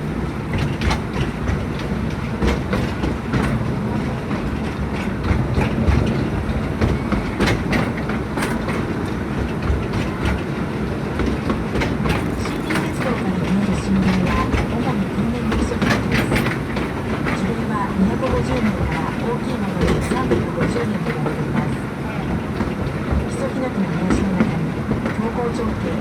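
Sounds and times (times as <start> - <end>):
train cars rumbling: 0.0 - 26.0
wheels clacking over rail joints: 0.0 - 26.0.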